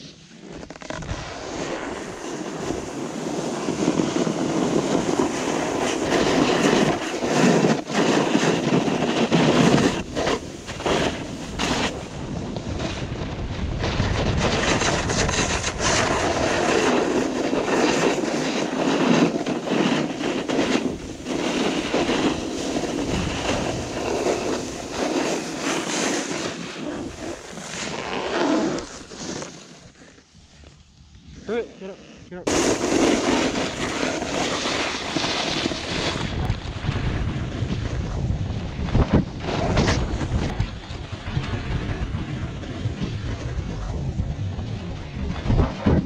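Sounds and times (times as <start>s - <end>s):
skis scraping on snow: 0.0s - 43.9s
wind buffeting microphone: 1.1s - 28.0s, 32.4s - 46.0s.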